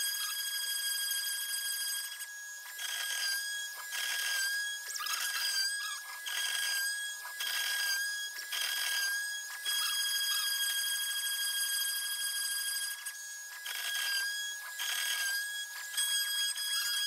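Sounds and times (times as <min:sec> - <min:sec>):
router spindle whining: 0:00.0 - 0:17.0
router bit milling wood: 0:01.4 - 0:17.0.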